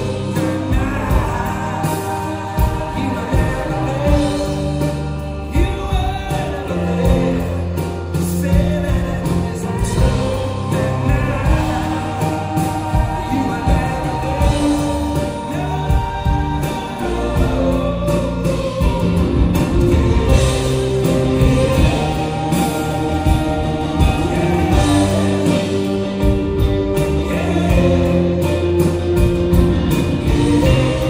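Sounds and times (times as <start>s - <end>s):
song with singing over guitar: 0.0s - 31.0s.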